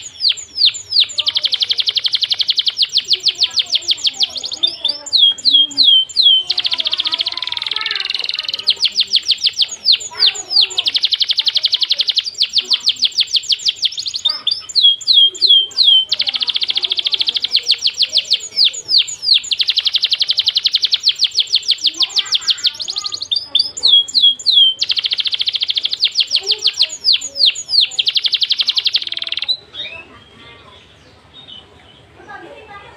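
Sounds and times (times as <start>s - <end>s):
songbird trilling: 0.0s - 32.4s.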